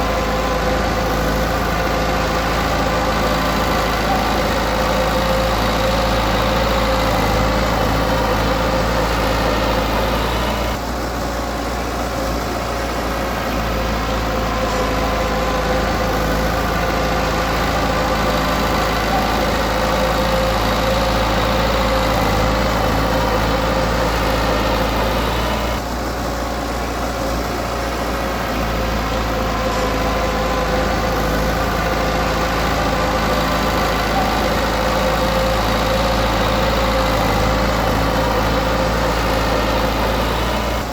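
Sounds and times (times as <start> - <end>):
heavy equipment diesel engine: 0.0 - 40.9.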